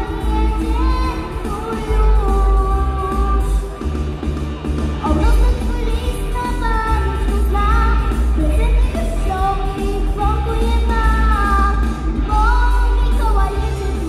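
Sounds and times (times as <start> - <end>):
woman singing pop song: 0.0 - 3.8, 5.0 - 14.0
backing track with bass: 0.0 - 14.0.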